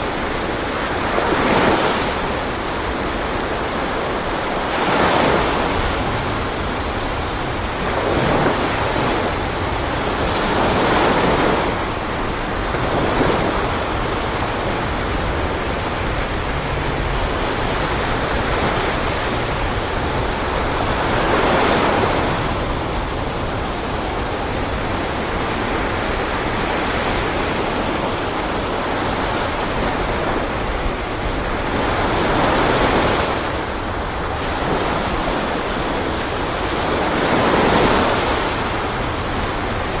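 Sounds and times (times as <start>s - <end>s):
sea waves washing: 0.0s - 40.0s.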